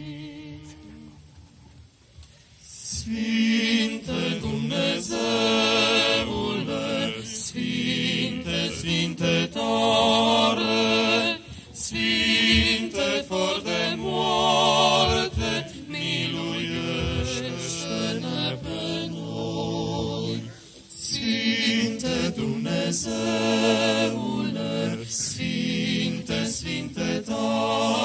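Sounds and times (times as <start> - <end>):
unaccompanied liturgical chant: 0.0 - 1.4, 2.6 - 28.0.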